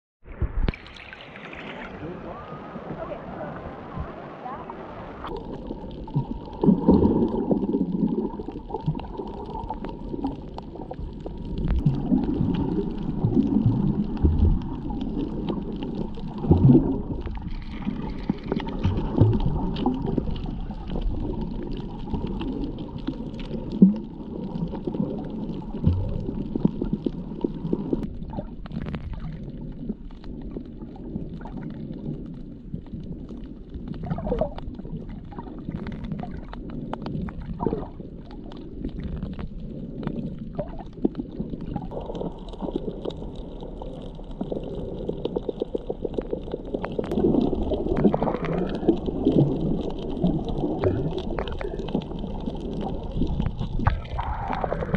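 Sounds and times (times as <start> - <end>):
underwater rumbling and gurgling: 0.2 - 54.9.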